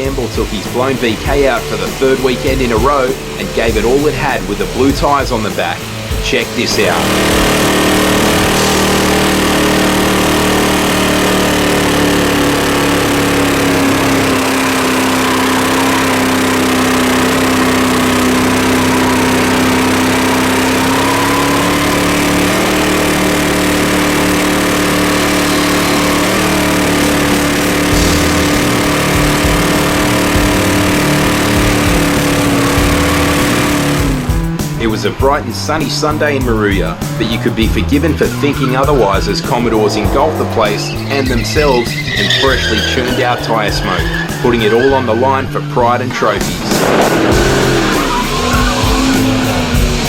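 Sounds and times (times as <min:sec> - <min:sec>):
engine at high revs: 0:00.0 - 0:50.0.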